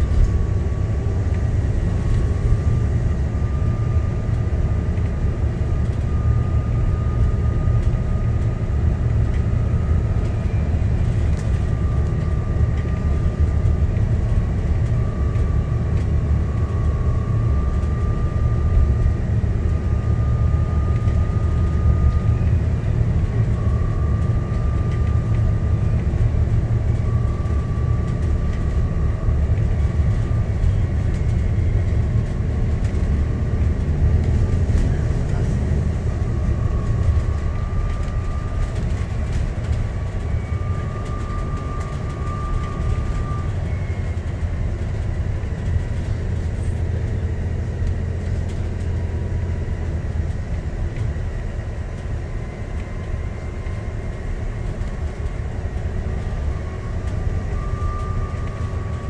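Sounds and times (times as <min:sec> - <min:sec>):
thin whine: 0:00.0 - 0:46.8, 0:52.4 - 0:59.0
bus engine and road rumble: 0:00.0 - 0:59.0.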